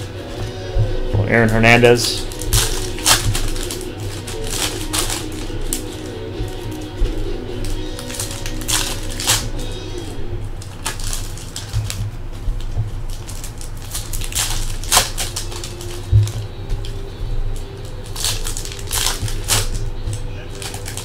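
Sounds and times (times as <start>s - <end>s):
cards and sleeves shuffling: 0.0s - 21.0s
low steady hum: 0.0s - 21.0s.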